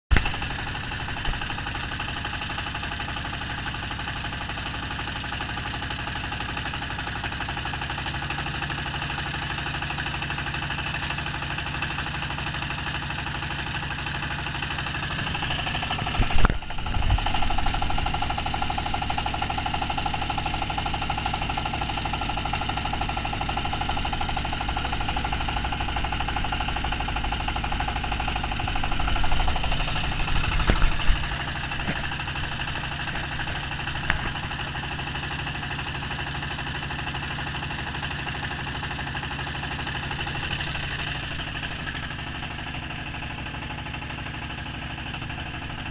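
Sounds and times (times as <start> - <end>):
boat engine running: 0.1 - 45.9.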